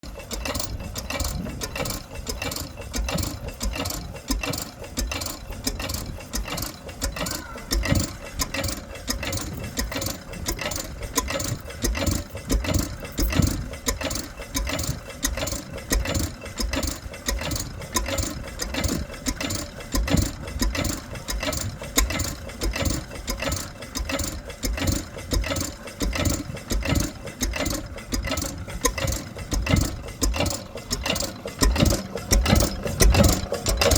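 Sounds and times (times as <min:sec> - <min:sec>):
diesel engine running with knocking: 0:00.0 - 0:33.9.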